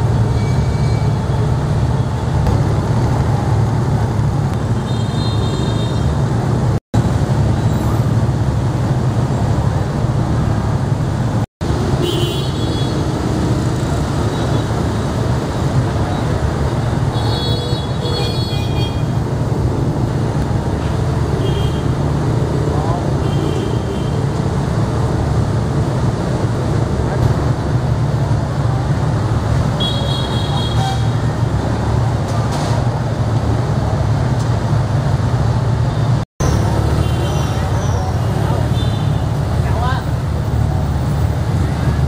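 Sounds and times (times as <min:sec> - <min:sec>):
street traffic rumble: 0:00.0 - 0:42.0.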